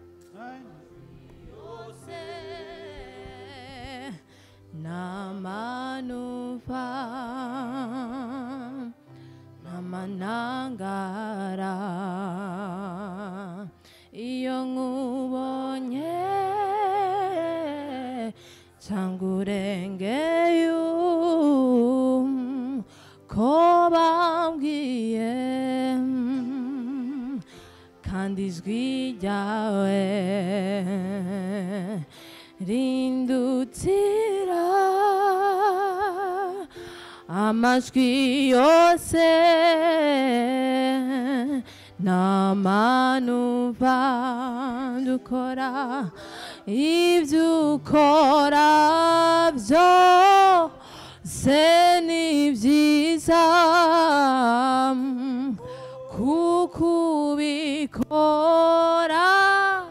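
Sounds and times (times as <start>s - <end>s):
person singing with vibrato: 0.0s - 9.0s, 9.6s - 59.9s.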